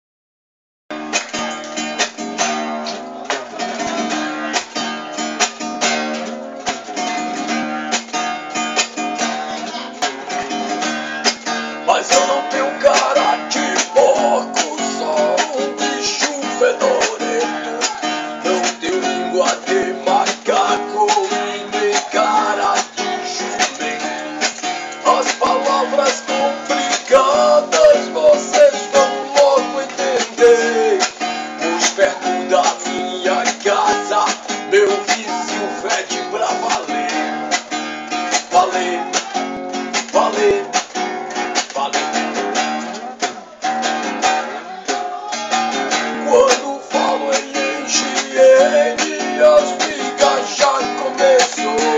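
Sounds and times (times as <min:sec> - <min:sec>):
strummed acoustic guitar: 0:00.9 - 0:51.9.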